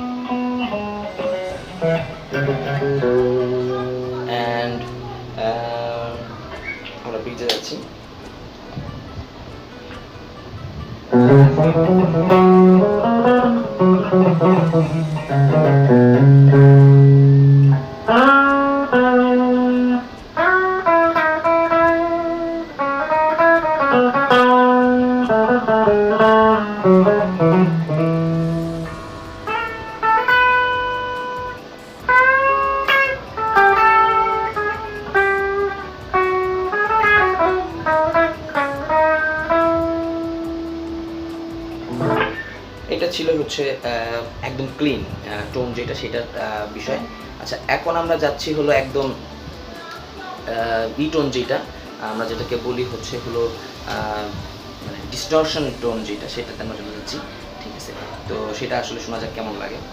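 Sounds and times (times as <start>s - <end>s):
clean electric guitar solo: 0.0s - 58.6s.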